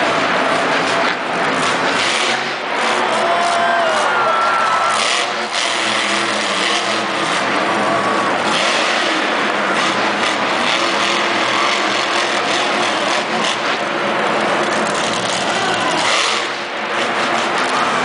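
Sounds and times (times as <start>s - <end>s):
monster truck engine running: 0.0s - 18.0s.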